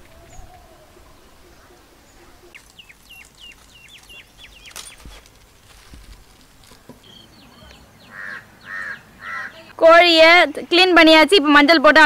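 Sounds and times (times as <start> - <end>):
bird chirping: 0.0 - 9.8.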